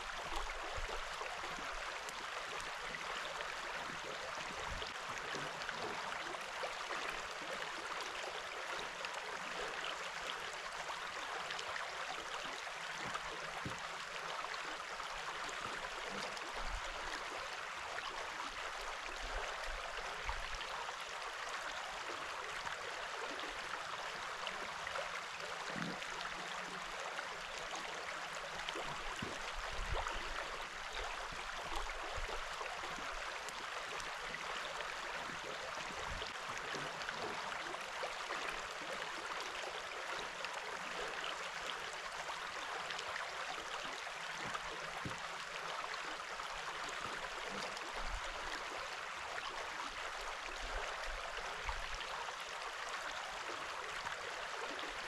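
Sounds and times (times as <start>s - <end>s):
creek water flowing: 0.0s - 55.0s.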